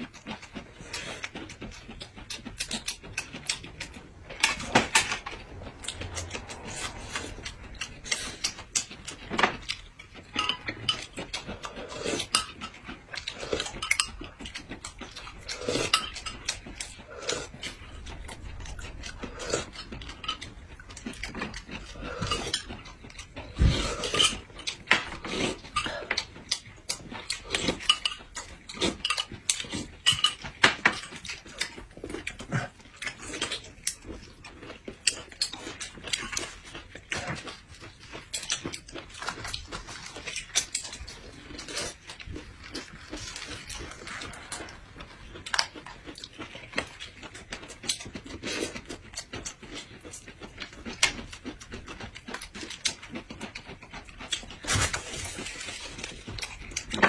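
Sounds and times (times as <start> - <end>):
chewing and lip-smacking: 0.0 - 57.0.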